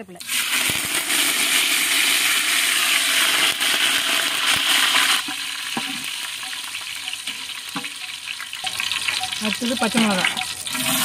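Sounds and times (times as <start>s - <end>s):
leaves sizzling in hot oil: 0.2s - 11.0s.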